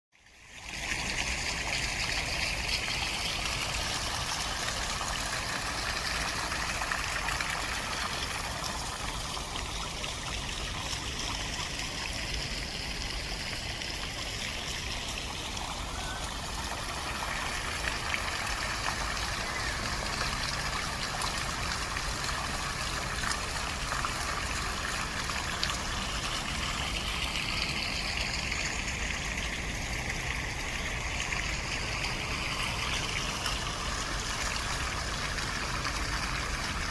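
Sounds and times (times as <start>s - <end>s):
water rushing: 0.4s - 36.9s.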